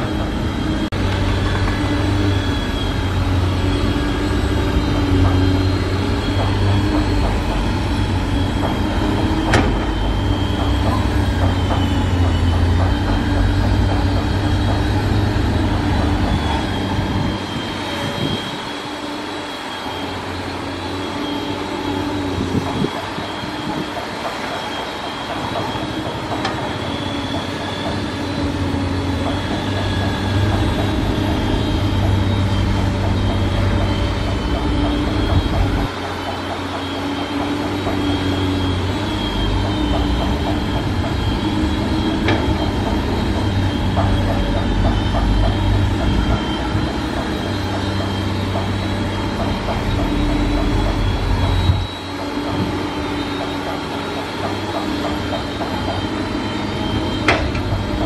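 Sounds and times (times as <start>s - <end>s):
excavator diesel engine drone: 0.0s - 58.0s
high hydraulic whine: 0.0s - 58.0s.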